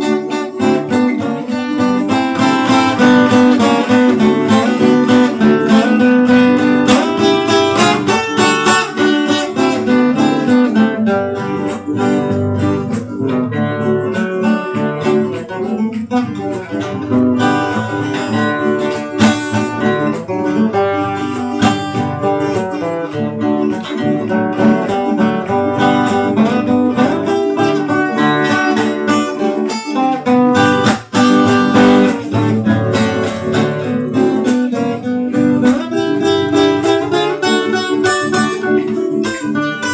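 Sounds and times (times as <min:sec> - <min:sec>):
picked acoustic guitar melody: 0:00.0 - 0:39.9
strummed guitar chords: 0:00.0 - 0:39.9.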